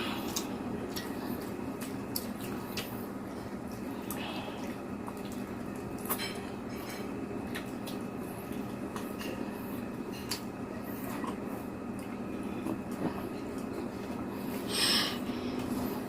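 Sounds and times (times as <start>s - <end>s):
steady low hum: 0.0s - 16.0s
wet chewing: 0.1s - 14.6s.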